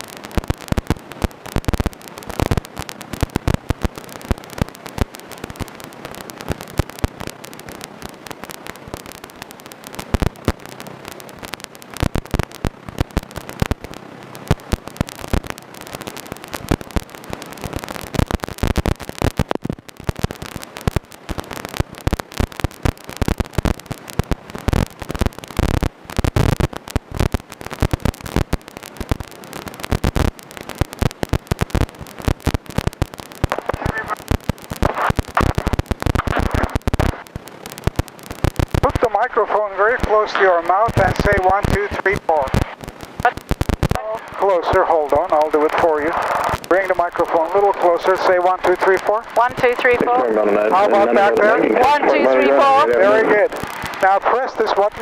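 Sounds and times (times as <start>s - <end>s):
dense crackling and popping: 0.0s - 55.0s.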